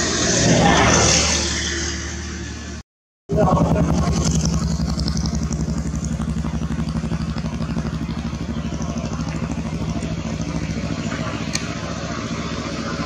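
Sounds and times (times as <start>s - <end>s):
engine idling: 2.2s - 13.0s.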